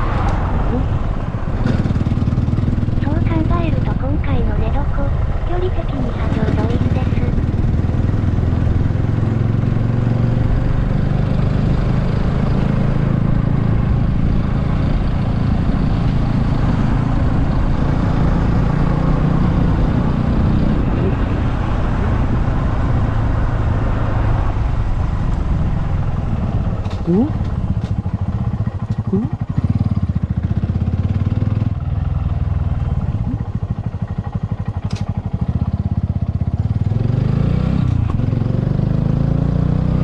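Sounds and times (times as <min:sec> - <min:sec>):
rushing wind noise: 0:00.0 - 0:32.3
motorcycle engine running: 0:00.7 - 0:40.0.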